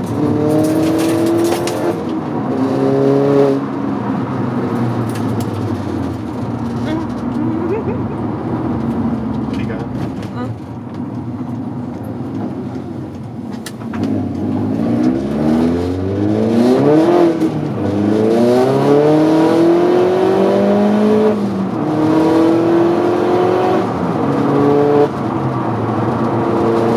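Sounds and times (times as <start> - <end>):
car engine accelerating hard: 0.0 - 26.9.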